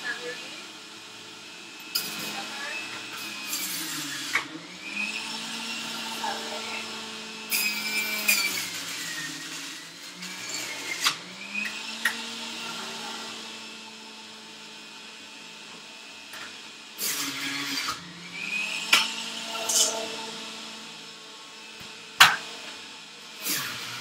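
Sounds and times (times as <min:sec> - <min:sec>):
electric juicer motor humming: 0:00.0 - 0:24.0
juicer grinding: 0:00.0 - 0:24.0.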